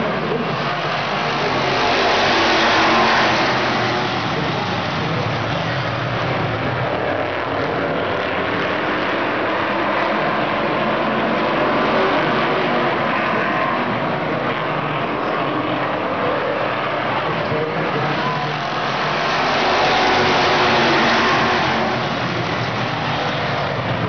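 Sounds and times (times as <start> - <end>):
race car engines roaring: 0.0 - 24.0.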